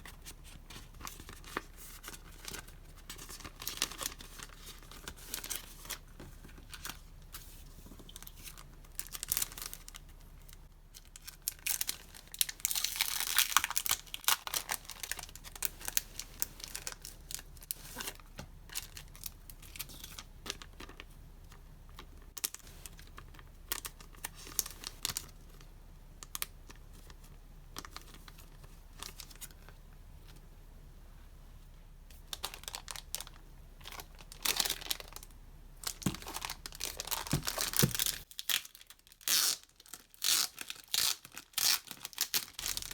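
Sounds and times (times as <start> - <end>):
packaging crinkling and tearing: 0.1 - 7.1, 8.1 - 21.0, 22.4 - 27.2, 32.2 - 42.9.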